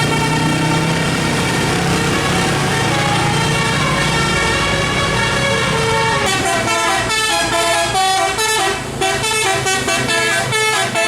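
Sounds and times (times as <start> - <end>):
bus engine running low: 0.0 - 11.0
bus horn playing a tune: 0.0 - 11.0.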